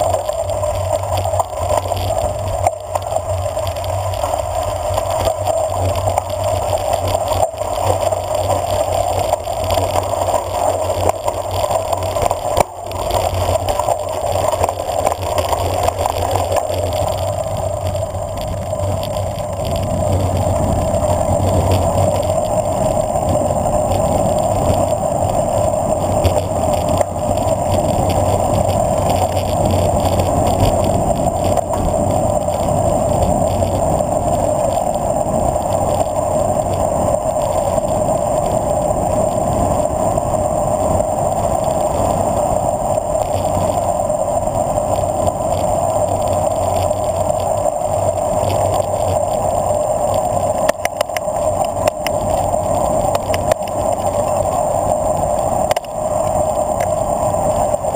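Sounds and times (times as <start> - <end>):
tyres rumbling on pavement: 0.0 - 57.9
wind rushing over camera: 0.0 - 57.9.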